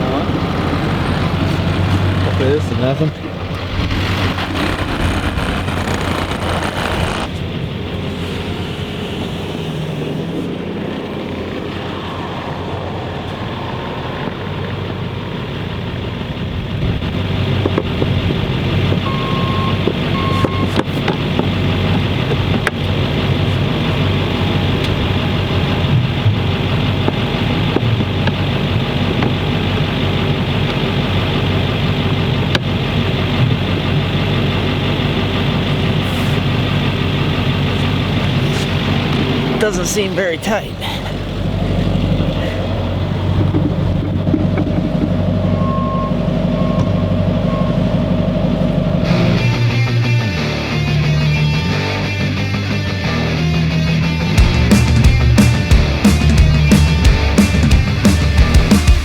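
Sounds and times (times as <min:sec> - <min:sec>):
snowplow truck engine running: 0:00.0 - 0:59.0.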